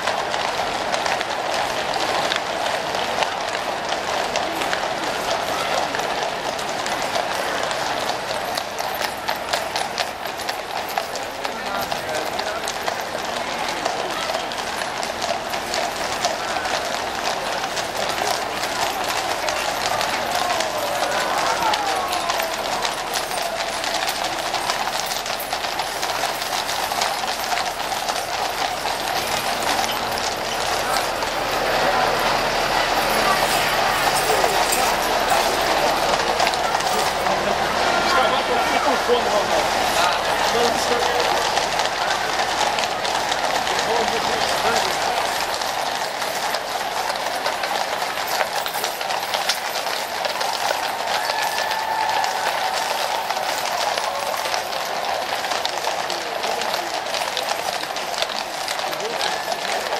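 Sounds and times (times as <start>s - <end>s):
crowd noise: 0.0s - 59.9s
horse hooves clip-clopping on pavement: 0.0s - 59.9s.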